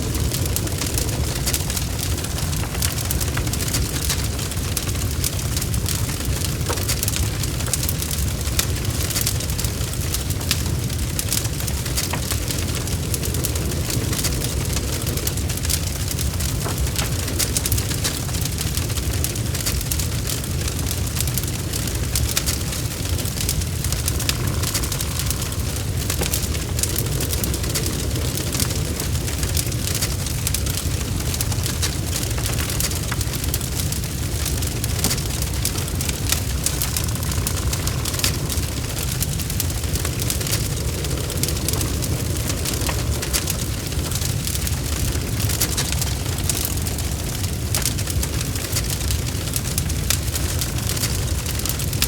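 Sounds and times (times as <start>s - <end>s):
fire rumbling: 0.0s - 52.0s
wood crackling and popping: 0.0s - 52.0s.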